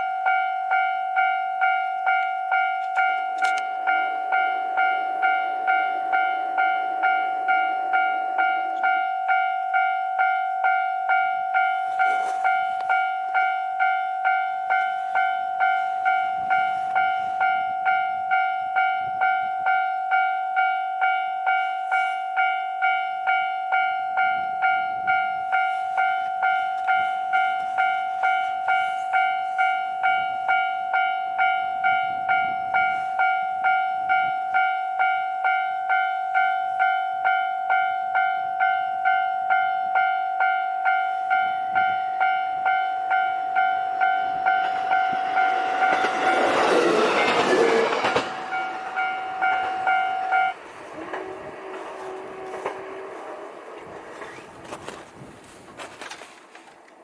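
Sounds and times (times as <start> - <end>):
level crossing warning bell: 0.0 - 55.0
railcar running noise: 0.0 - 57.0.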